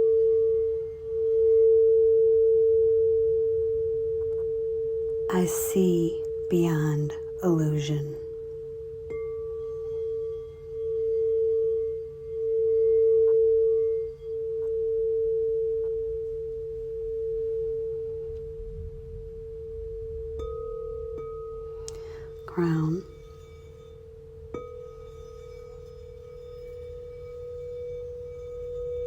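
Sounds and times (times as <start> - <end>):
low singing bowl ringing: 0.0 - 5.3, 7.1 - 29.0.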